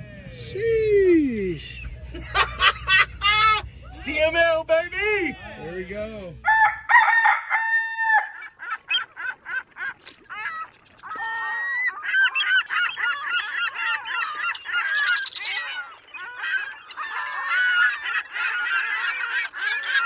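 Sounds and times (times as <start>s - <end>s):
flock of birds honking and squawking: 2.9s - 20.0s.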